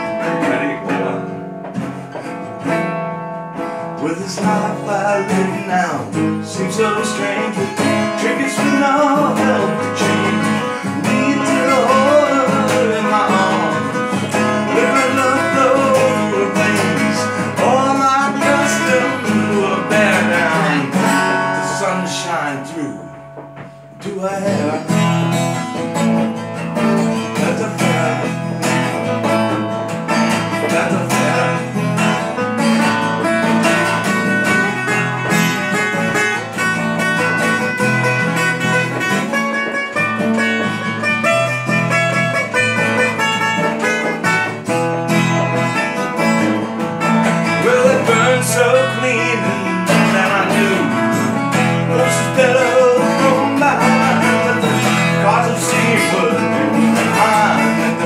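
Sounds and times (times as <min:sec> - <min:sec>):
acoustic guitar strummed: 0:00.0 - 0:58.0
resonator guitar picked: 0:00.0 - 0:58.0.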